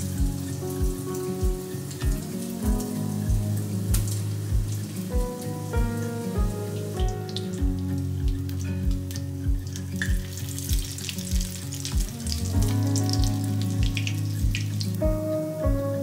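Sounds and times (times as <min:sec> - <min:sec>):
background music with soft beat: 0:00.0 - 0:16.0
oil sizzling in a skillet: 0:00.0 - 0:16.0.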